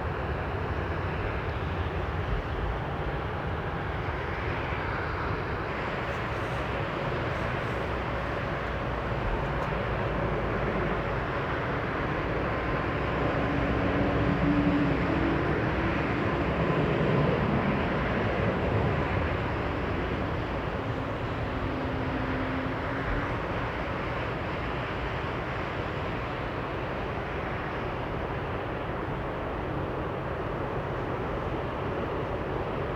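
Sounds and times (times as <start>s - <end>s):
faint jet engine whine: 0.0s - 32.9s
jet airliner rumble: 0.0s - 32.9s.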